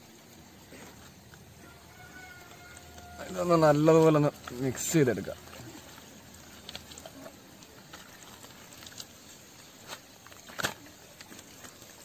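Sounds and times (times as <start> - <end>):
hands squelching marinade into chicken: 0.7 - 12.0.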